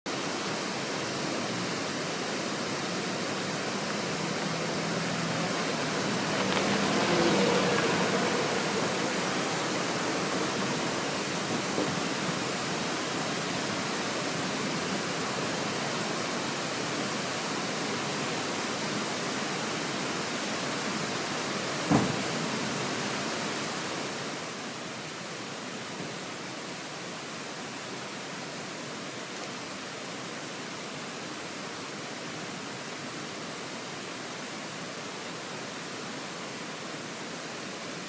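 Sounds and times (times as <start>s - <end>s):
stream water rushing: 0.1s - 38.0s.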